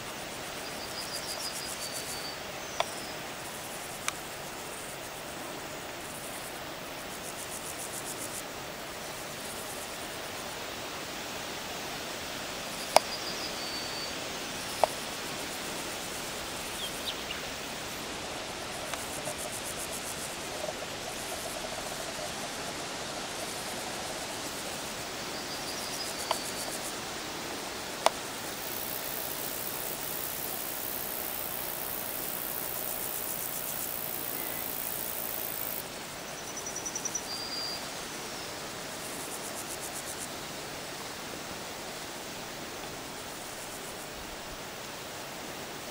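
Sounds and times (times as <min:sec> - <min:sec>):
outdoor hiss: 0:00.0 - 0:45.9.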